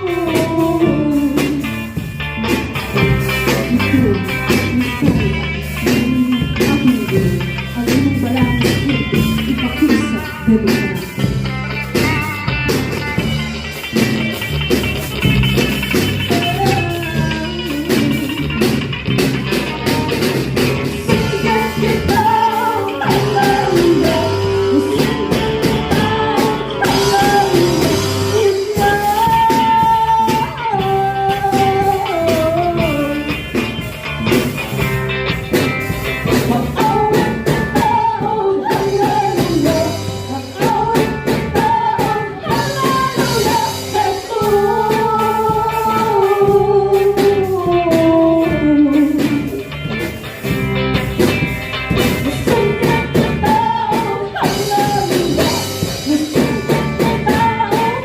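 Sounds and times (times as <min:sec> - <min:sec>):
person singing: 0:00.0 - 0:13.0, 0:15.6 - 0:34.4, 0:36.2 - 0:49.8, 0:51.9 - 0:58.0
drum kit steady beat: 0:00.0 - 0:58.0
guitar: 0:00.0 - 0:58.0.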